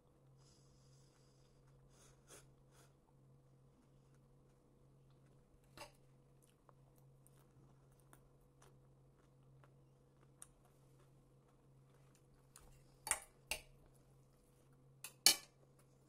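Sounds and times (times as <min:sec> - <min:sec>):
faint steady hum: 0:00.0 - 0:16.0
faint chewing: 0:00.3 - 0:14.9.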